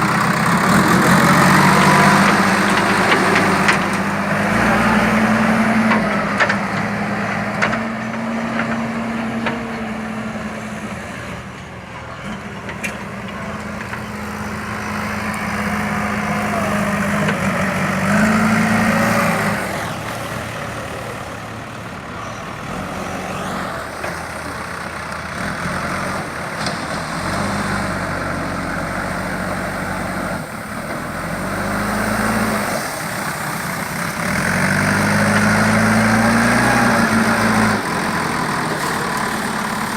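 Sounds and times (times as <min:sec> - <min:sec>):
diesel engine revving under load: 0:00.0 - 0:39.9.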